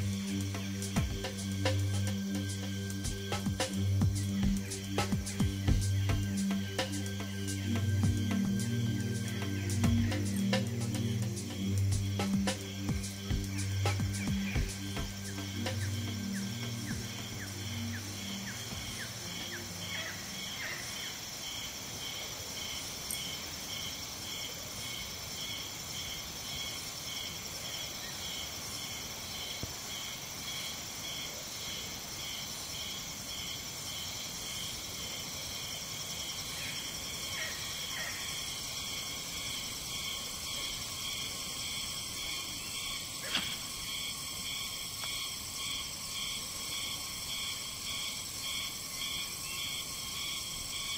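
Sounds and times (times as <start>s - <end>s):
insect chorus droning and trilling: 0.0s - 50.9s.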